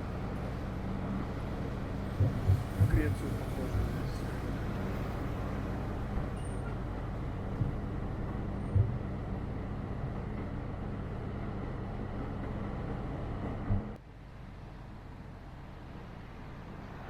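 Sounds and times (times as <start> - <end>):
tram rumbling along track: 0.0 - 17.0.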